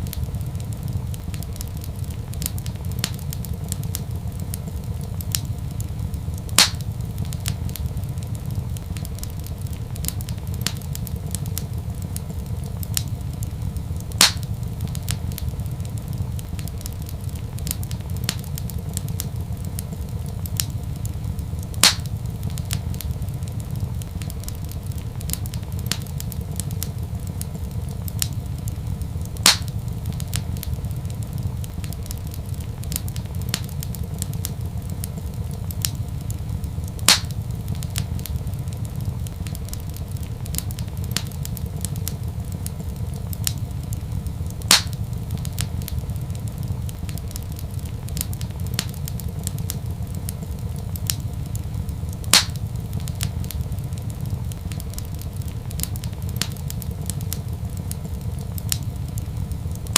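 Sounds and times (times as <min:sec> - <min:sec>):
loud fire pops: 0:00.0 - 0:59.9
low fire rumble: 0:00.0 - 0:59.9
wood fire crackling: 0:00.0 - 0:59.9.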